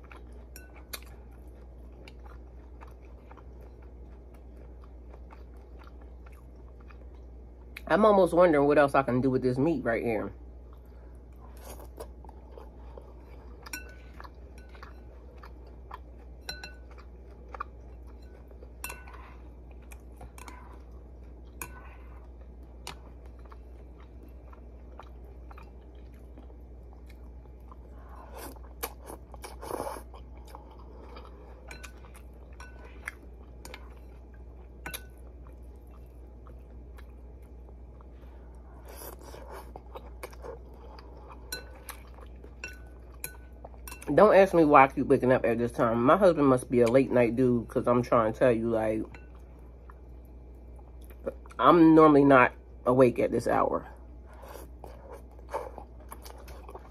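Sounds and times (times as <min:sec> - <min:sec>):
chewing food: 0:00.0 - 0:07.9, 0:10.5 - 0:44.2, 0:49.0 - 0:51.6, 0:54.0 - 0:56.9
steady low hum: 0:00.0 - 0:56.9.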